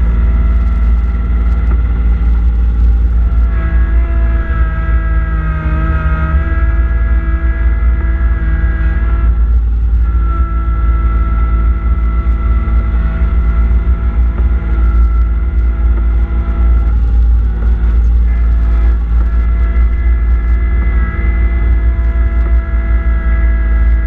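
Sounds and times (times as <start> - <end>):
snowblower whine: 0.0 - 24.0
tractor diesel engine rumbling: 0.0 - 24.0.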